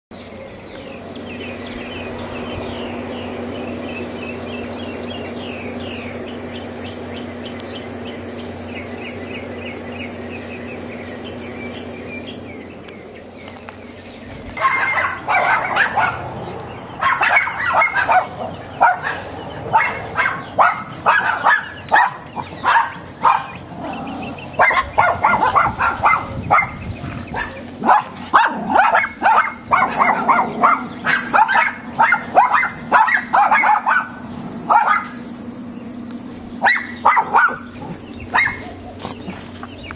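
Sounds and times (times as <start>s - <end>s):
small birds chirping: 0.1s - 39.9s
steady hum: 0.1s - 39.9s
dogs barking loudly: 0.5s - 39.9s.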